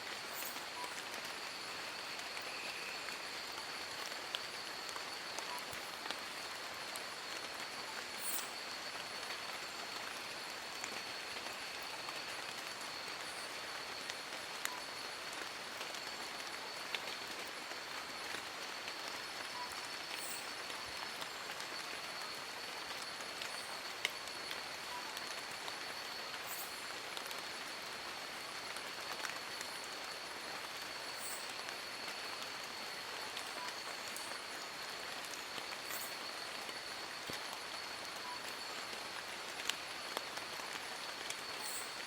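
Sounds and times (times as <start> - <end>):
rain falling on leaves: 0.0 - 42.0.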